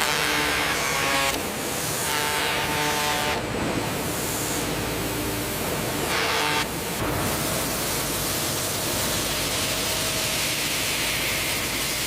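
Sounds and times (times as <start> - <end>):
steady hiss of noise: 0.0 - 12.0.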